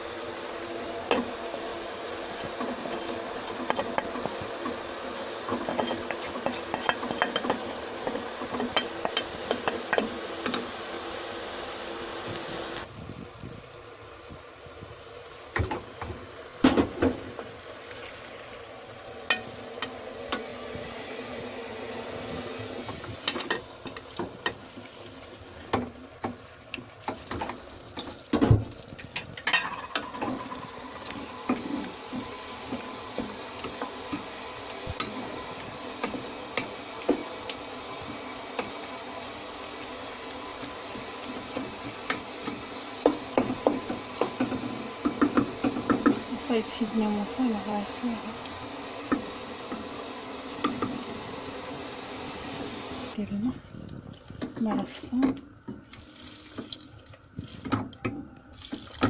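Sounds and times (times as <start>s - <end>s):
oil sizzling: 0.0s - 59.0s.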